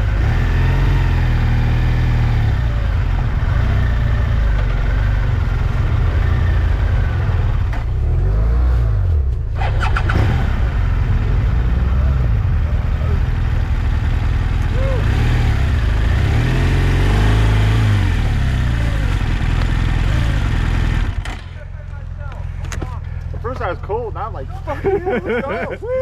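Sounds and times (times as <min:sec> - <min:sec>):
motorcycle engine revving: 0:00.0 - 0:25.5.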